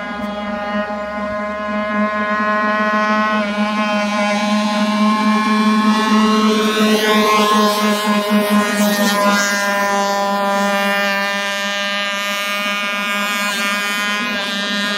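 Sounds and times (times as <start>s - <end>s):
model boat motor buzzing: 0.0s - 14.9s.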